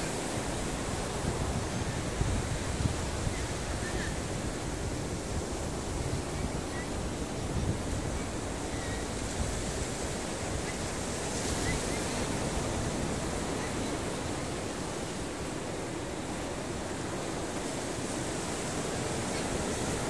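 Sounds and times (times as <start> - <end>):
waves breaking on a beach: 0.0 - 20.0.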